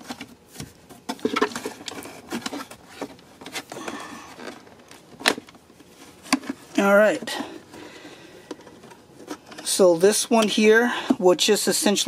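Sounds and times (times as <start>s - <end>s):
plastic scraping: 0.0s - 9.8s.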